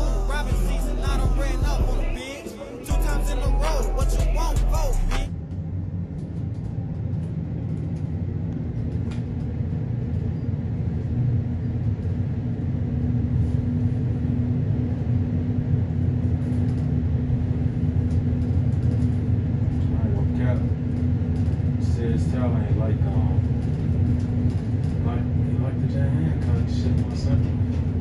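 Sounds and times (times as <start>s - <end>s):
elevator low rumble: 0.0s - 28.0s
steady low hum: 0.0s - 28.0s.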